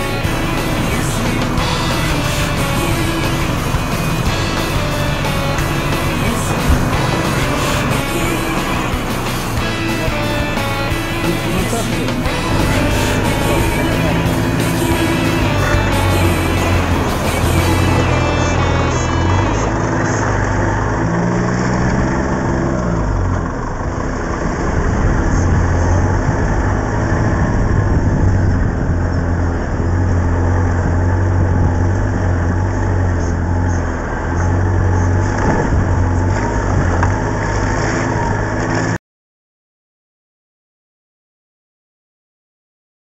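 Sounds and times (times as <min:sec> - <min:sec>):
car engine running: 0:00.0 - 0:39.0.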